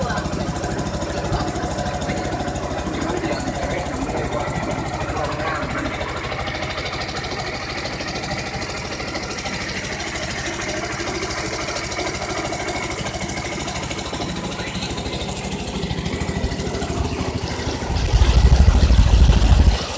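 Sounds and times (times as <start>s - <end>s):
loud low rumble: 0.0s - 19.9s
small boat engine putter: 0.0s - 19.9s.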